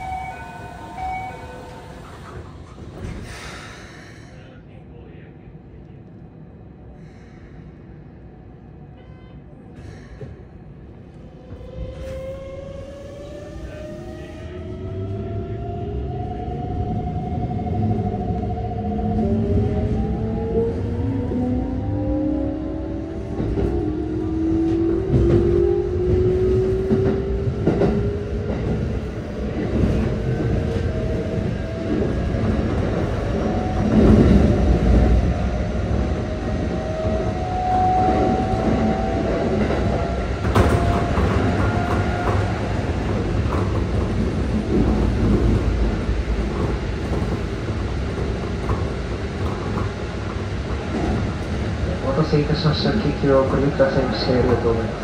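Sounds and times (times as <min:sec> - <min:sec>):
wheels rumbling on rail: 0:09.8 - 0:55.0.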